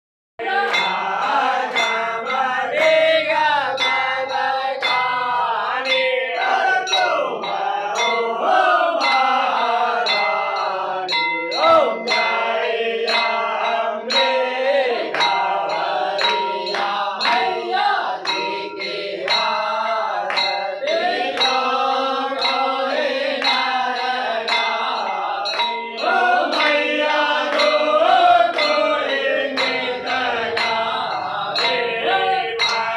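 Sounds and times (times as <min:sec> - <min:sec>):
chant-like devotional singing: 0:00.4 - 0:32.9
steady percussion beat: 0:00.4 - 0:32.9.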